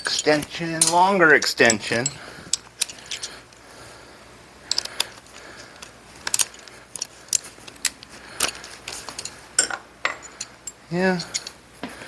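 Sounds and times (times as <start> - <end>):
metal hand tools clinking: 0.0 - 3.6, 4.7 - 11.6.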